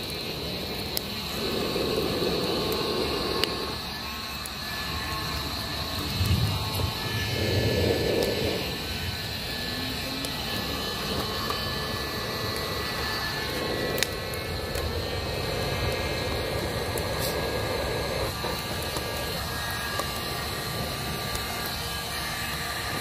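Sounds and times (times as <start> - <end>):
burning wood popping: 0.0 - 23.0
fire rushing in a hollow log: 0.0 - 23.0.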